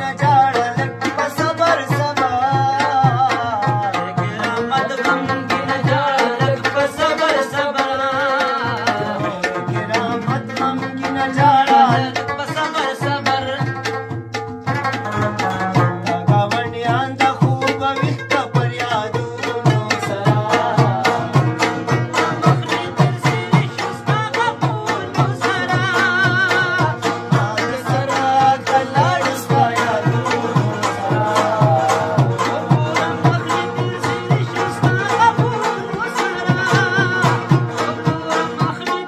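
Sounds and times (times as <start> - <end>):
clay pot drum and metal pot beat: 0.0 - 39.0
man singing: 0.0 - 39.0
plucked rabab: 0.0 - 39.0.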